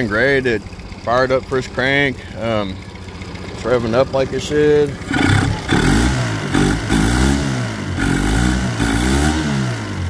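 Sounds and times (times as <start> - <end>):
outboard engine revving: 0.0 - 10.0.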